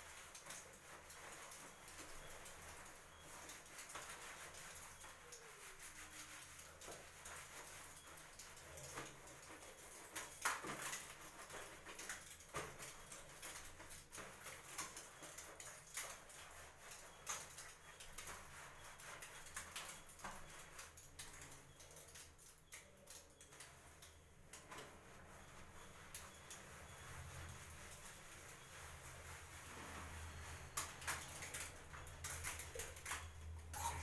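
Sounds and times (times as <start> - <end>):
hands scrubbing lathered wet hair: 0.0 - 34.0.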